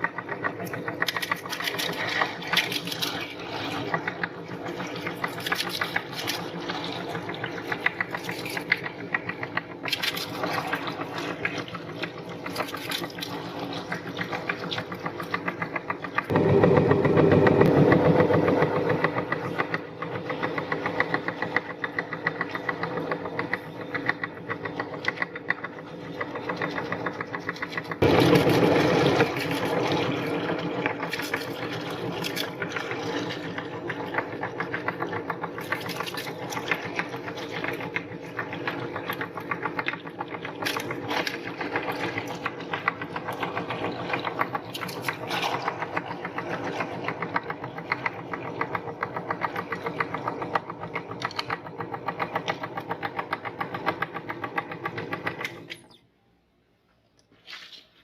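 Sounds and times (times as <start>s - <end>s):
electric meat grinder running: 0.0s - 12.6s, 13.3s - 55.6s.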